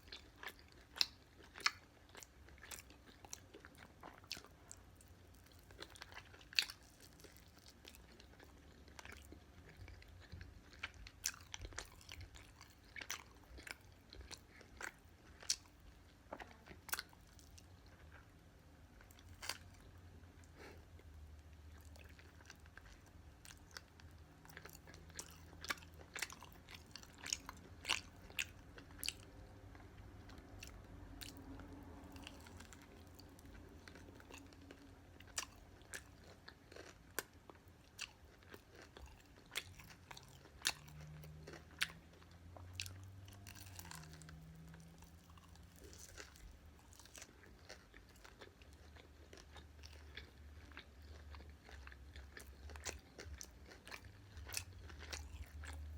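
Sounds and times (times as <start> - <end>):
chewing crispy fried chicken: 0.0 - 55.9.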